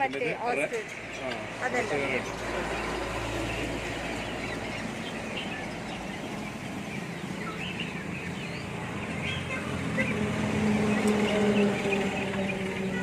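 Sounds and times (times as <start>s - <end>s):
birds chirping: 0.0s - 13.0s
chickens clucking: 0.0s - 13.0s.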